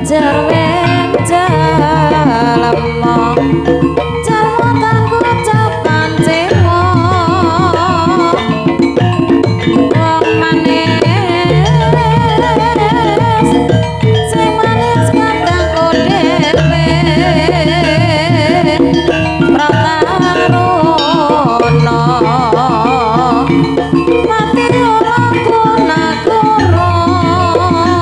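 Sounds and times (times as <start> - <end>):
hand drums: 0.0 - 28.0
high wavering melody line: 0.0 - 28.0
layered metallophones: 0.0 - 28.0.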